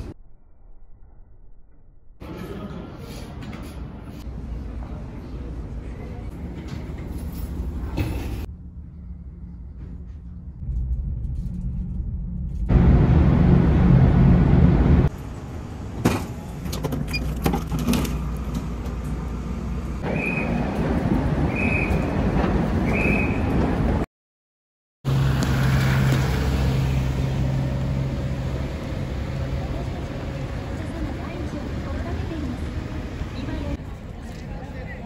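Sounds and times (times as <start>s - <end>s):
machinery hum and rumble: 2.1s - 24.0s, 25.1s - 35.0s
road traffic: 2.2s - 11.3s, 11.9s - 24.1s, 25.0s - 35.0s.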